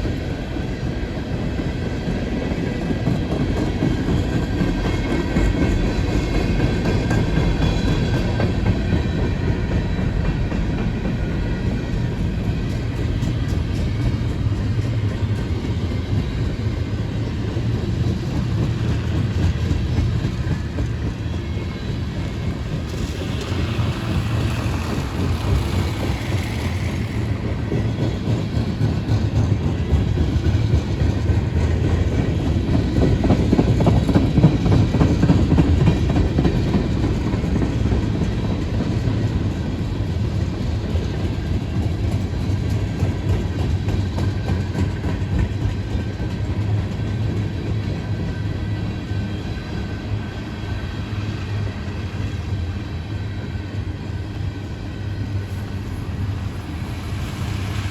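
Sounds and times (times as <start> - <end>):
train rumbling on track: 0.0 - 57.9.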